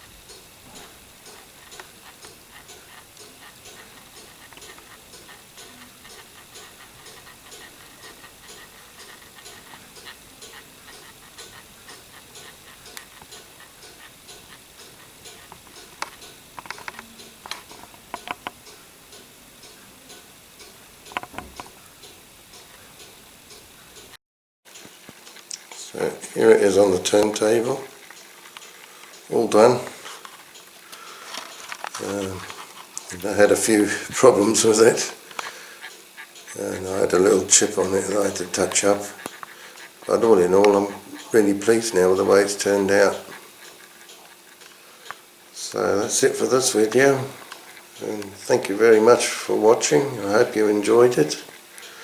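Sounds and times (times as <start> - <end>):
steady mechanical ticking: 0.0 - 52.0.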